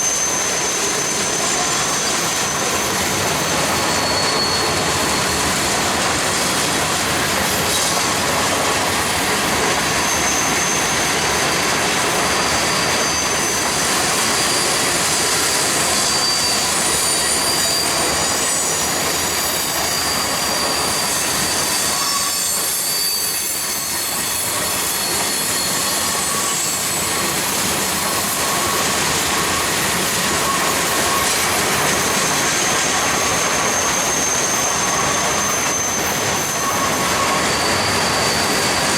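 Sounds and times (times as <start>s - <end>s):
high wheel squeals: 0.0s - 38.9s
train wheels rumbling on rail: 0.0s - 38.9s.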